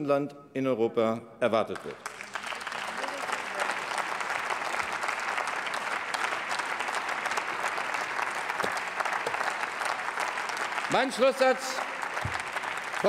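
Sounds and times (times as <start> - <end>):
crowd applauding: 1.7 - 13.0.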